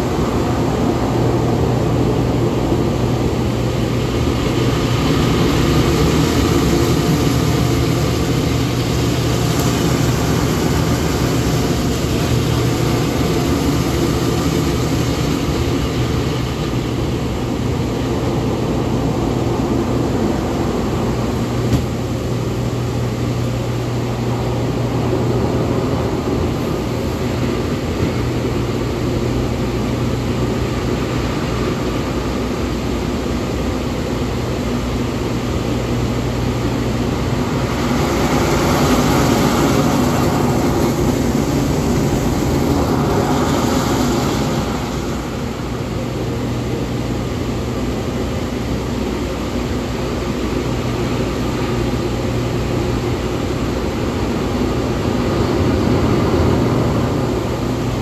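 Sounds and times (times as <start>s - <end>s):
pump and water jets humming: 0.0s - 58.0s.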